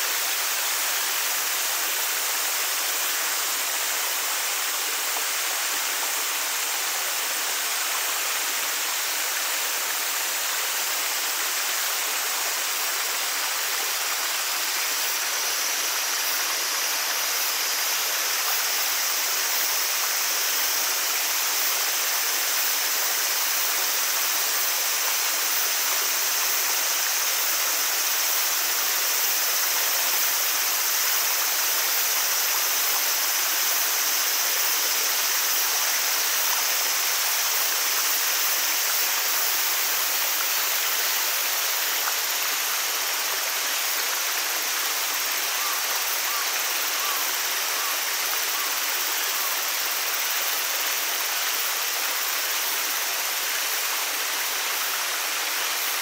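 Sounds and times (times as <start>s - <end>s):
stream water falling over rocks: 0.0s - 56.0s.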